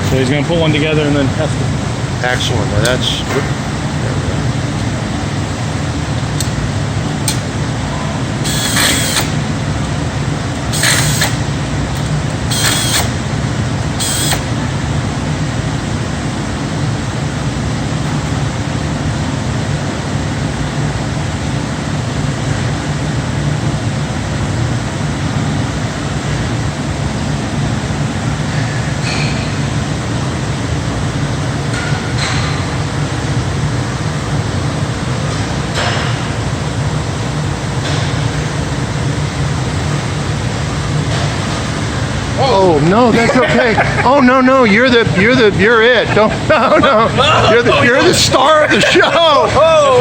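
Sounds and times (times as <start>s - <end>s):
factory machinery hum: 0.0s - 50.0s.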